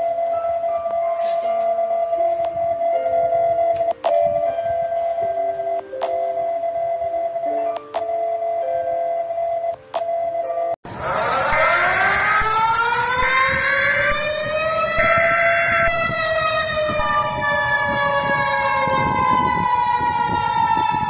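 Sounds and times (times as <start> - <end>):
siren wailing: 0.0 - 21.0
steady alarm tone: 0.0 - 21.0.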